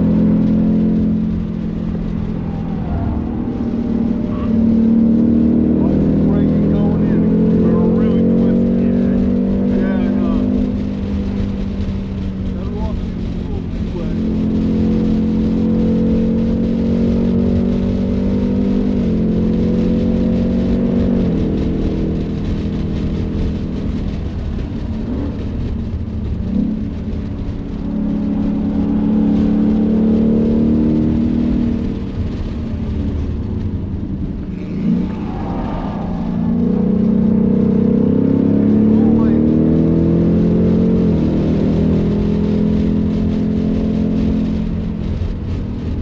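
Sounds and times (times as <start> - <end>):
car engine accelerating hard: 0.0 - 46.0.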